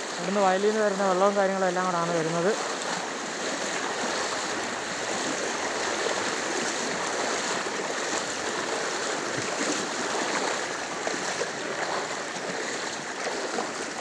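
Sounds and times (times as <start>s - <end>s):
floodwater rushing over stones: 0.0s - 14.0s.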